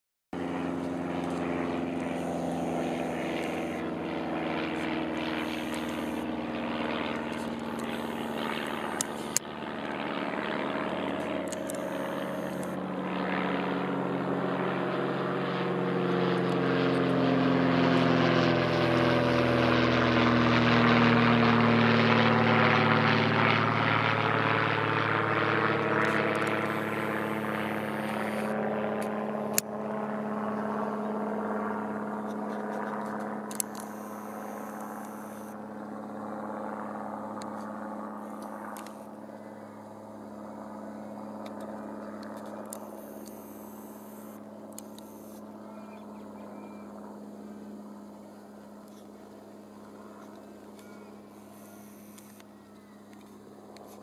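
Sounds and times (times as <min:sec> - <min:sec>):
propeller plane engine droning: 0:00.4 - 0:54.0.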